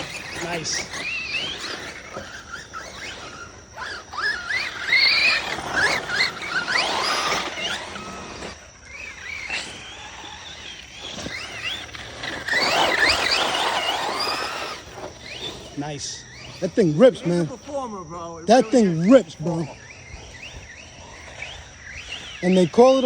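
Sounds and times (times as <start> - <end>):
electric motor whining: 0.0 - 23.0
tyres churning: 0.0 - 23.0.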